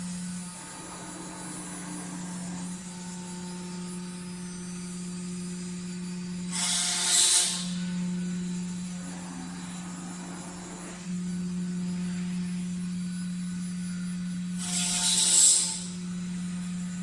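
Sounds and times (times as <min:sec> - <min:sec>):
cnc router humming: 0:00.0 - 0:17.0.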